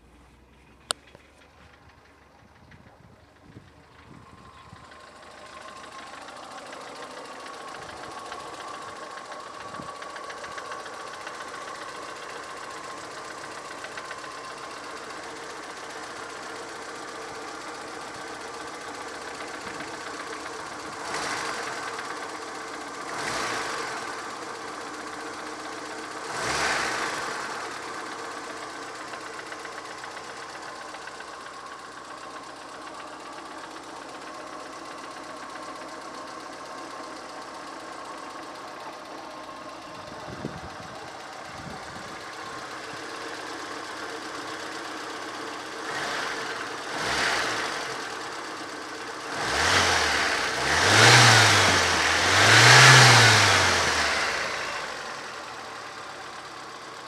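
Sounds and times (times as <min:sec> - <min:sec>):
car engine idling and revving: 0:00.0 - 0:57.0
engine knocking: 0:00.0 - 0:57.0.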